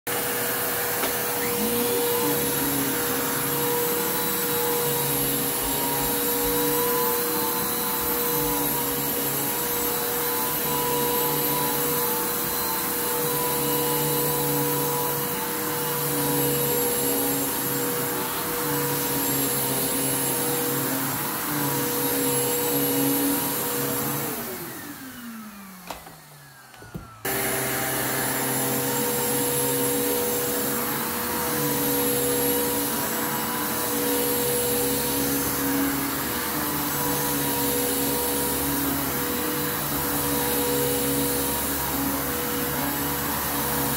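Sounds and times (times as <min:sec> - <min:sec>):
vacuum cleaner running on carpet: 0:00.1 - 0:43.9.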